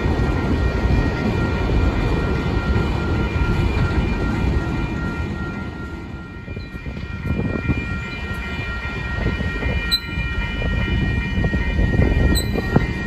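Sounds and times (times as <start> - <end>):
crossing signal bell ringing: 0.0 - 13.0
train wheels rumbling: 0.0 - 13.0.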